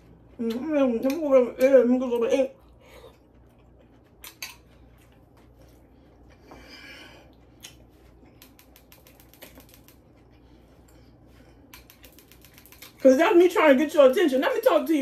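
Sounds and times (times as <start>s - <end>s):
quiet chewing: 0.0s - 13.1s.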